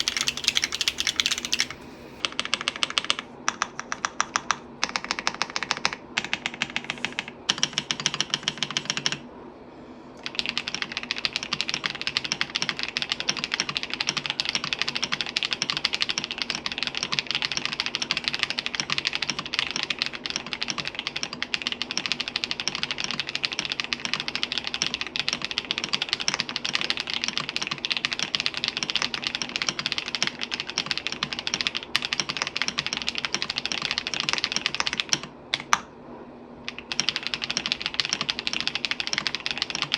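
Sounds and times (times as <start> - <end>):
mechanical keyboard typing: 0.0 - 9.2, 10.2 - 35.8, 36.7 - 39.9.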